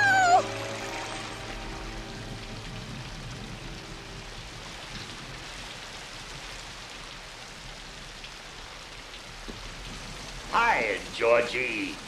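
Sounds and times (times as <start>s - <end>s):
rain falling on wet street: 0.0s - 12.0s.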